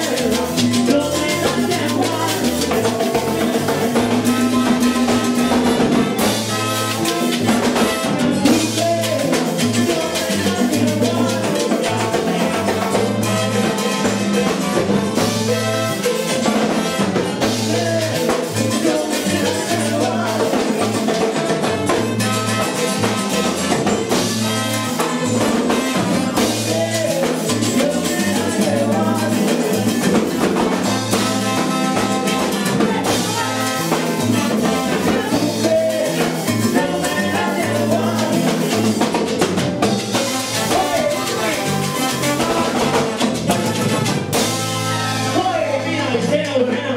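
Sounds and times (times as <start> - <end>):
person singing: 0.0 - 39.5, 40.1 - 46.9
drum kit: 0.0 - 46.4
bass line: 0.0 - 46.9
latin percussion: 0.0 - 46.9
salsa band playing: 0.0 - 46.9.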